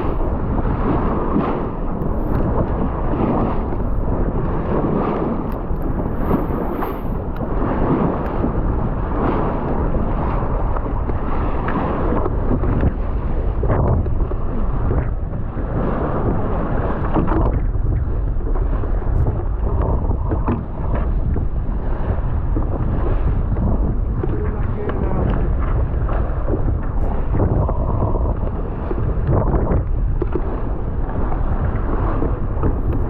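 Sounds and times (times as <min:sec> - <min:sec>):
water splashing along hull: 0:00.0 - 0:33.0
wind buffeting microphone: 0:00.0 - 0:33.0.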